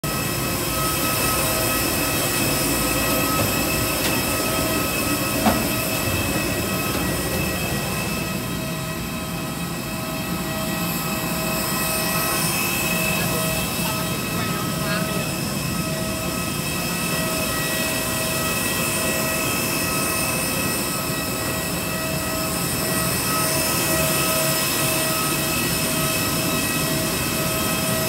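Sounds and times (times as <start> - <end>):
machine whine and rumble: 0.0 - 28.0.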